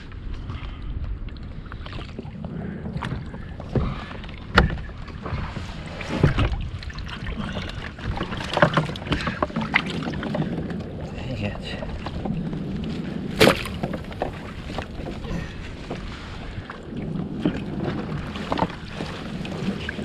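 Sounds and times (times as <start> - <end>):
water washing against hull: 0.0 - 20.0.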